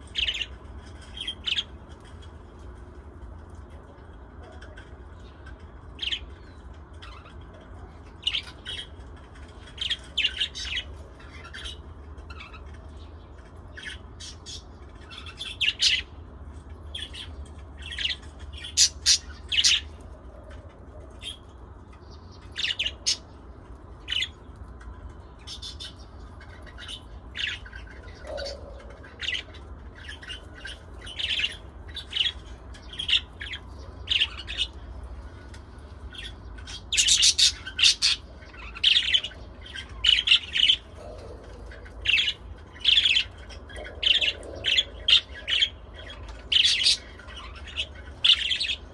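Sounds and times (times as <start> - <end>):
parrots chirping and squawking: 0.0 - 3.6, 4.5 - 48.9
steady low hum: 0.0 - 48.9.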